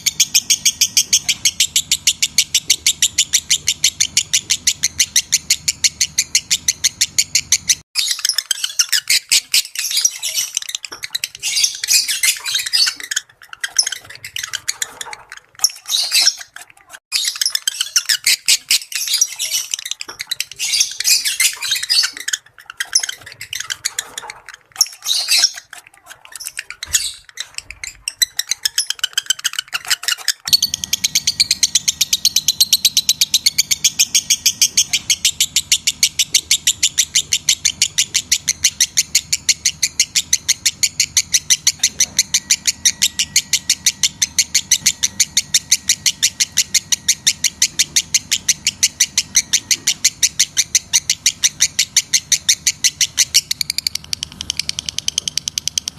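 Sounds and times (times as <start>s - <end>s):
lovebird chirping: 0.0s - 55.9s.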